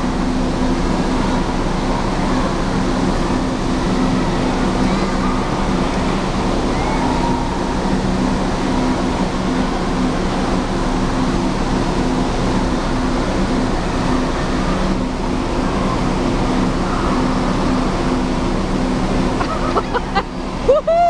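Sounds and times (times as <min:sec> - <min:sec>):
echoing crowd noise: 0:00.0 - 0:21.0
low mechanical hum: 0:00.0 - 0:21.0.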